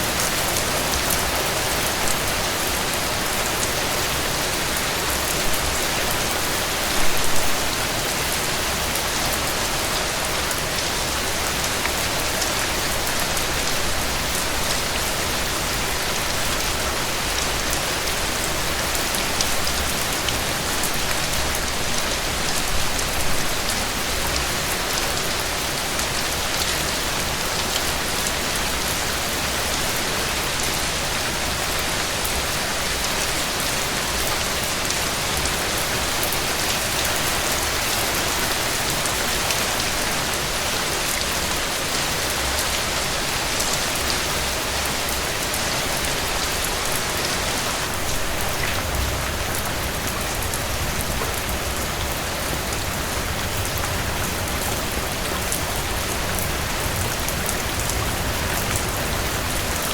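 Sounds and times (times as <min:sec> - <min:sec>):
heavy rain on a porch: 0:00.0 - 0:59.9.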